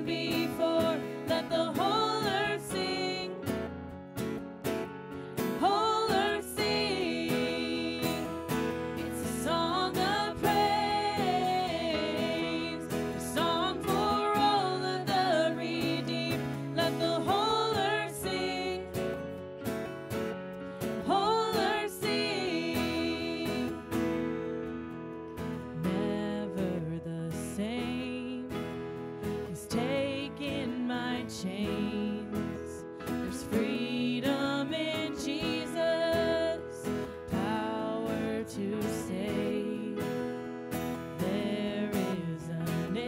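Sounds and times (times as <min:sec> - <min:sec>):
woman singing into microphone: 0:00.0 - 0:03.7, 0:05.4 - 0:19.2, 0:21.0 - 0:24.1, 0:25.8 - 0:40.4, 0:41.1 - 0:43.0
acoustic guitar: 0:00.0 - 0:43.0.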